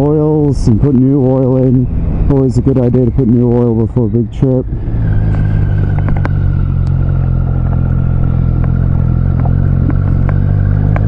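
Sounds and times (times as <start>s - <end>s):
high whine: 0.0s - 11.0s
motorcycle engine cruising: 0.0s - 11.0s.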